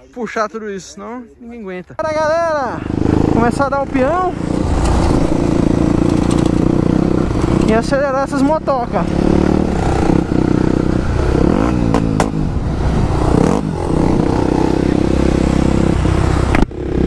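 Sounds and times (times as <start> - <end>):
motorcycle engine revving: 2.7 - 17.0.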